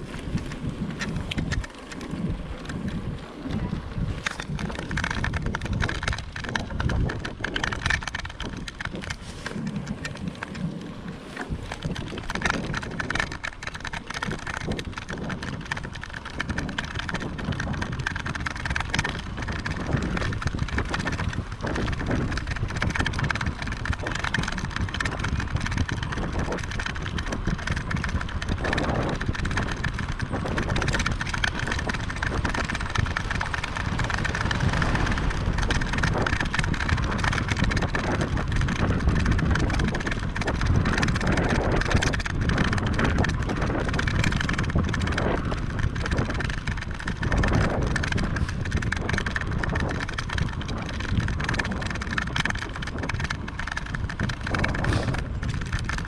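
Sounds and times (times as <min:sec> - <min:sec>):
bicycle tyre and road noise: 0:00.0 - 0:56.0
wind rumble on microphone: 0:00.0 - 0:56.0.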